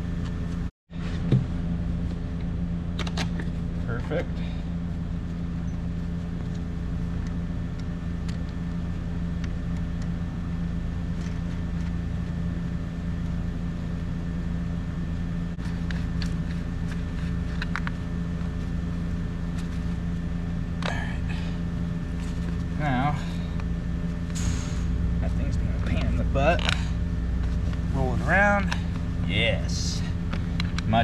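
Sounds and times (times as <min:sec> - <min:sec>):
machine idling drone: 0:03.6 - 0:31.0.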